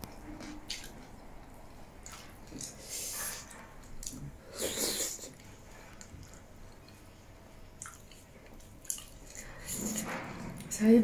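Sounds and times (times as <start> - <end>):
person chewing: 0.4 - 10.1.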